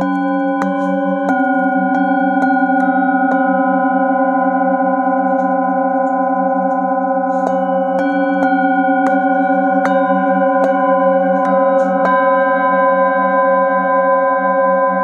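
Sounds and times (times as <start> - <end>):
bowl tones ringing with wobble: 0.0 - 15.0
singing bowls struck with mallet: 0.0 - 15.0.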